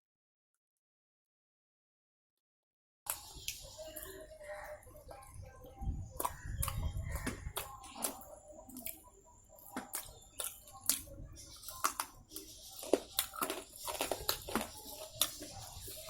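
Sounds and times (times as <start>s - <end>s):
chewing and crunching: 3.1s - 16.0s.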